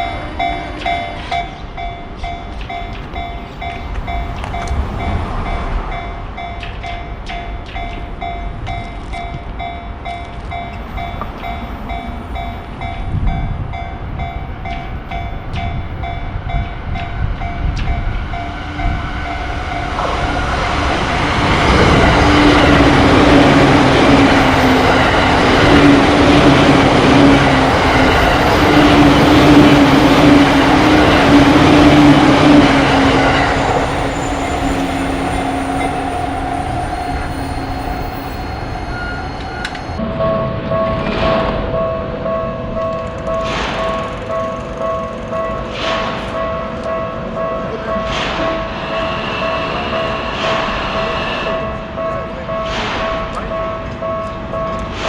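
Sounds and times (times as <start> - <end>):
electric train passing: 0.0 - 55.0
level crossing warning bell: 0.0 - 55.0.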